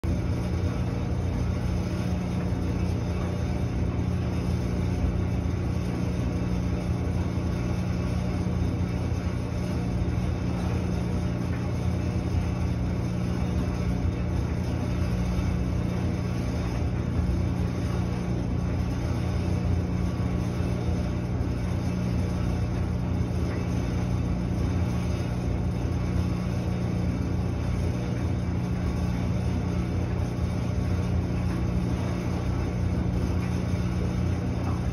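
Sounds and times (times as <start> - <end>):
clothes dryer tumbling: 0.0 - 34.9.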